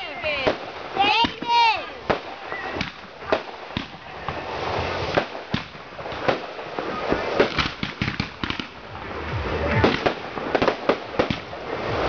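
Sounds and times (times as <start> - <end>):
firework bangs: 0.0 - 12.0
fireworks crackling hiss: 0.0 - 12.0.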